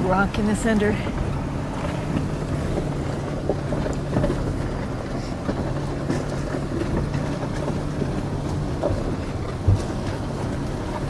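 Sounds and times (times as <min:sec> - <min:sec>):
stones clicking under tyres: 0:00.0 - 0:11.0
truck engine running: 0:00.0 - 0:11.0.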